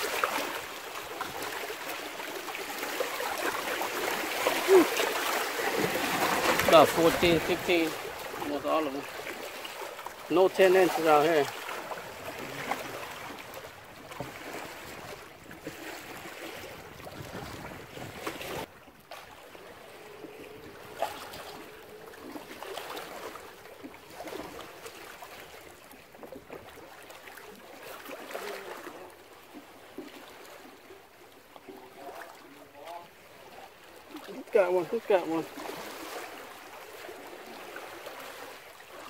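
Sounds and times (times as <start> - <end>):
water lapping against a wall: 0.0 - 39.0.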